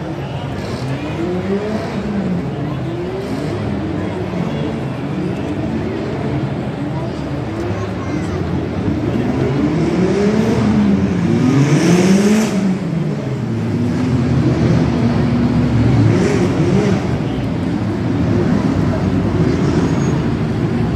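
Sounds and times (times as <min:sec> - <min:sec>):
race car engines revving: 0:00.0 - 0:20.9.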